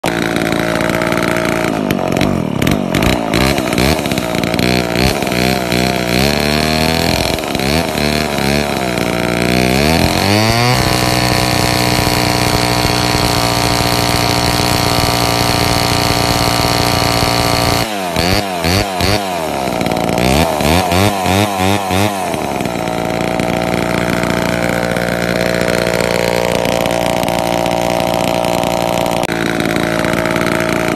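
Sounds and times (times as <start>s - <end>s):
chainsaw revving: 0.0s - 30.9s.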